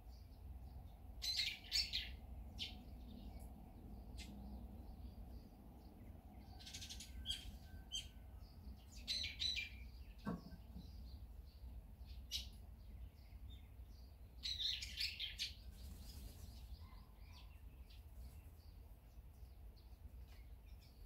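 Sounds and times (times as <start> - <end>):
birds calling and chirping: 0.0 - 21.0.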